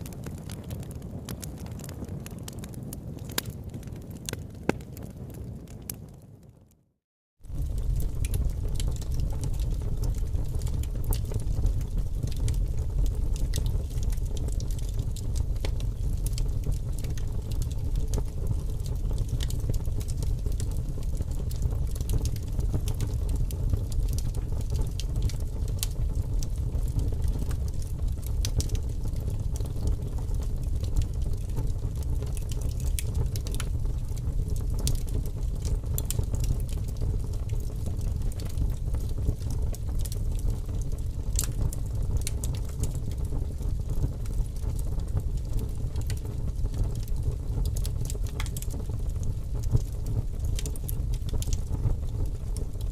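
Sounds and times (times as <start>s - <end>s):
flames rumbling: 0.0s - 6.7s, 7.4s - 52.9s
fire crackling and popping: 0.0s - 52.9s.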